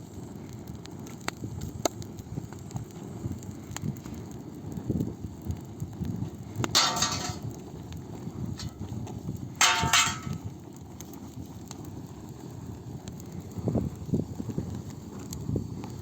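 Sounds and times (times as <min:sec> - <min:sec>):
campfire rumbling and crackling: 0:00.0 - 0:16.0.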